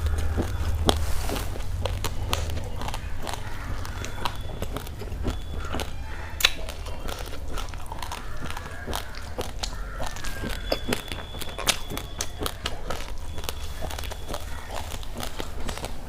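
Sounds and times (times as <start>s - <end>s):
chewing crunchy rice: 0.0s - 16.0s
low steady hum: 0.0s - 16.0s.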